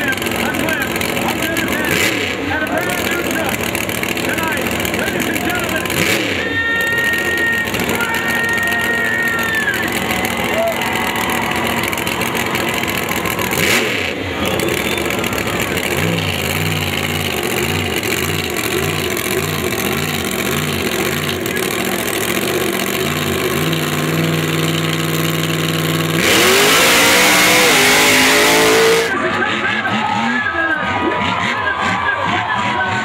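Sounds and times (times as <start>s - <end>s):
truck engine idling and revving: 0.0s - 33.0s.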